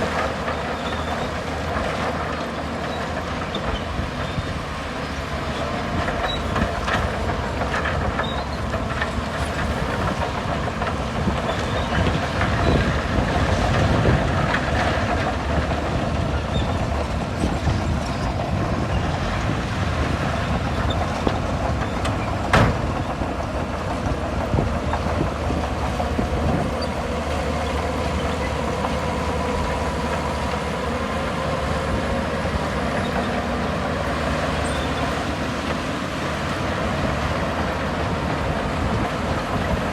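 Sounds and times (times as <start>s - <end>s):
bulldozer diesel engine running: 0.0s - 39.9s
steel tracks clattering: 0.0s - 39.9s.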